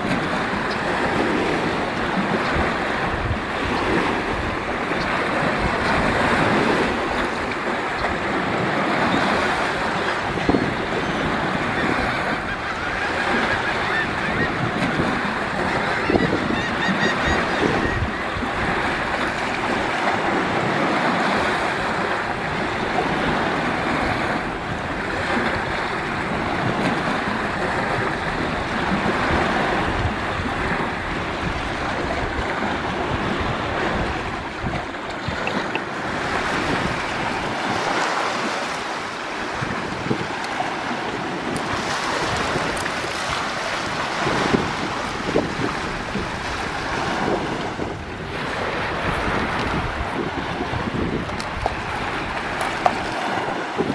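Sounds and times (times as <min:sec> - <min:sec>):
small waves lapping on sand: 0:00.0 - 0:53.9
wind buffeting microphone: 0:00.0 - 0:53.9.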